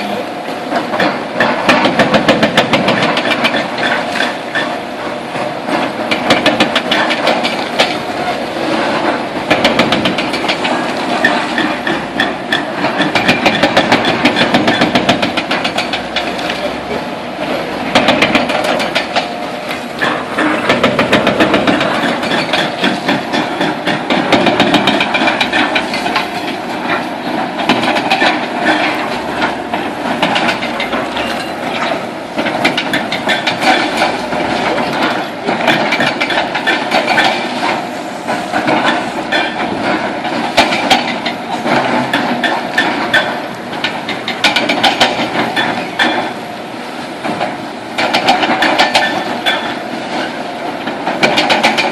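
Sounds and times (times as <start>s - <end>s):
excavator engine running: 0.0s - 51.9s.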